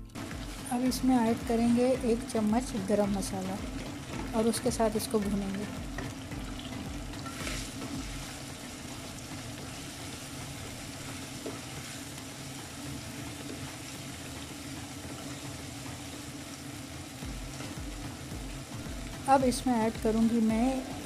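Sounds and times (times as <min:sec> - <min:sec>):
curry sizzling in a wok: 0:00.0 - 0:21.0.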